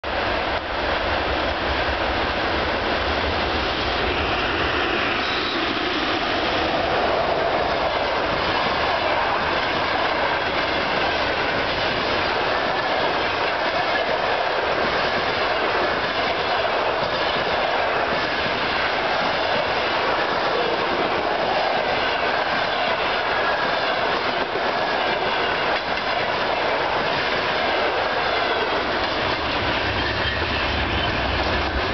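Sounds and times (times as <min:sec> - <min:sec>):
trains passing: 0:00.0 - 0:31.9
steel wheels rolling on rails: 0:01.0 - 0:31.9.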